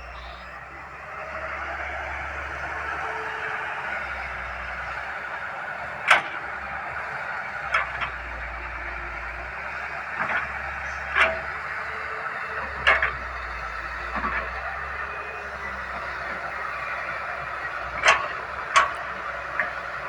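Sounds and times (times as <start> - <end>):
excavator mechanical noise: 0.0 - 20.0.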